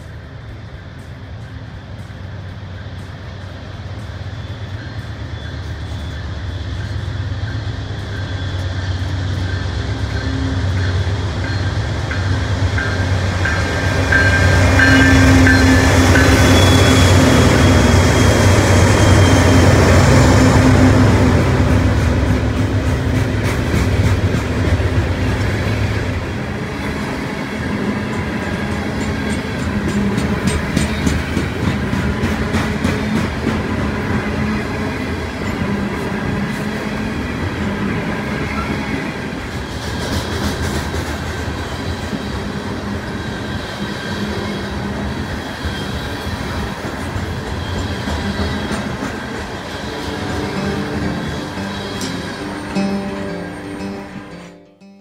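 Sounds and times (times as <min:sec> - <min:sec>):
diesel locomotive engine rumble: 0:00.0 - 0:54.3
steel wheels rolling on rail: 0:00.0 - 0:54.6.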